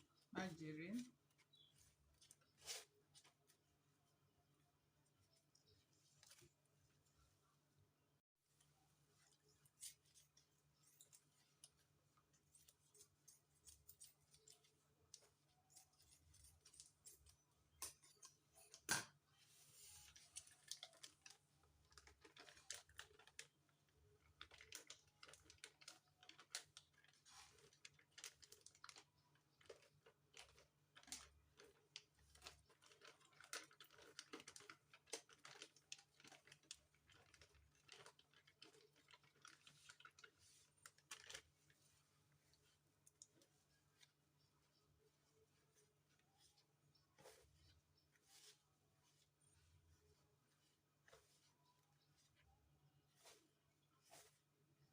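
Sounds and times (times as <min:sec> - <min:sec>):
hands kneading dough in a bowl: 0:00.0 - 0:54.9.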